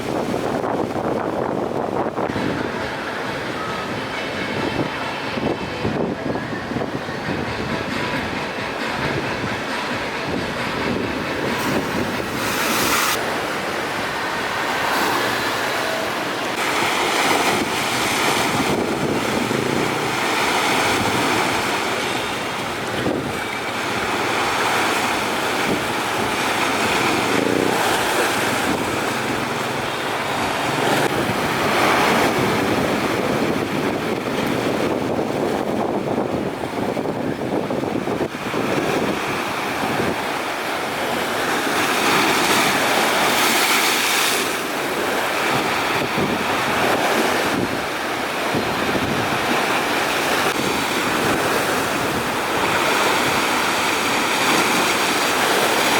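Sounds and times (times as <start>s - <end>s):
rough sea waves: 0.0s - 55.9s
strong wind on microphone: 0.0s - 55.9s.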